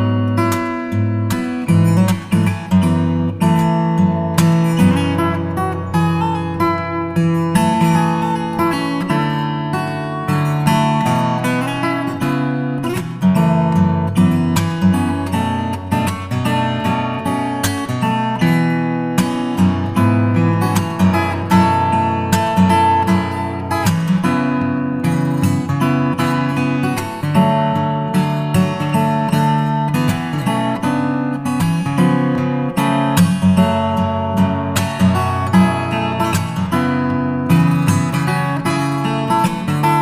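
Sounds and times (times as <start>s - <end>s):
acoustic guitar music: 0.0s - 40.0s.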